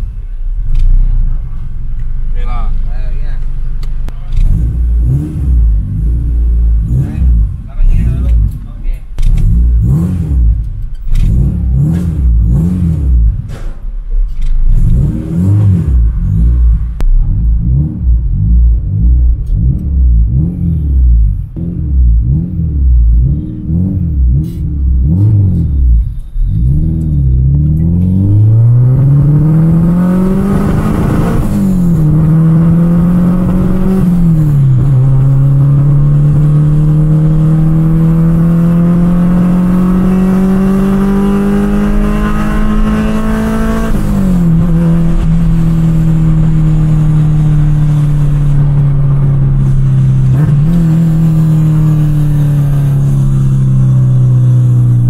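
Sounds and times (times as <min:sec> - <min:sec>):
car engine and exhaust accelerating: 0:00.0 - 0:55.0.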